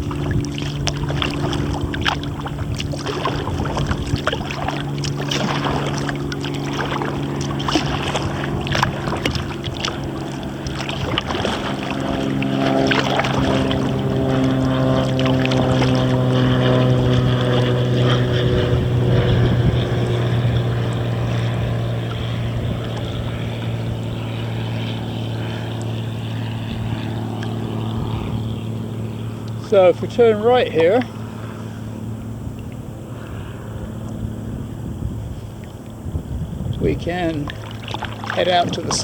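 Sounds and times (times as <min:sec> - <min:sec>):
paddle splashes and drips: 0:00.0 - 0:34.2, 0:35.2 - 0:39.0
motorboat engine droning: 0:00.0 - 0:39.0.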